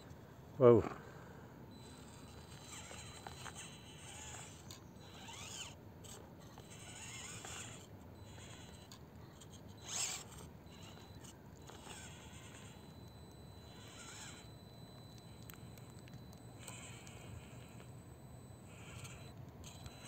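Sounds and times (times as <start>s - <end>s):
small electric motor whining: 1.7s - 20.0s.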